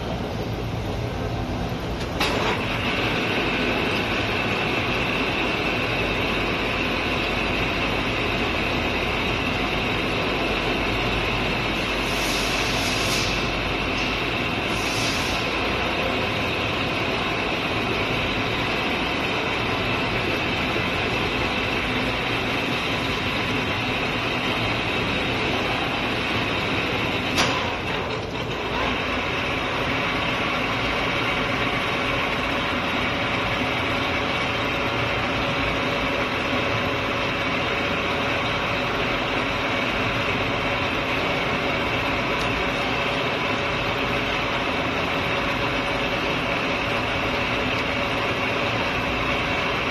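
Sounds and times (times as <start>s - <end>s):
metal lathe running: 0.3s - 49.9s.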